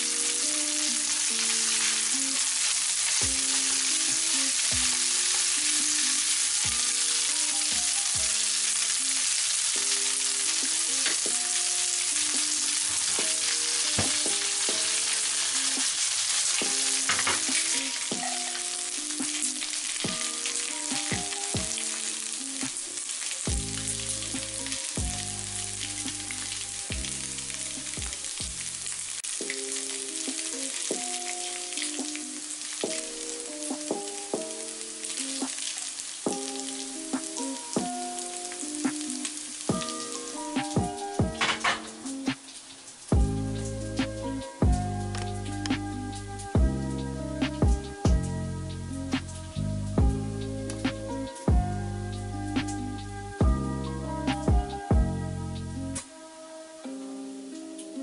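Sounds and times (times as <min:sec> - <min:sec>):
spaghetti sizzling in frying pan: 0:00.0 - 0:47.9.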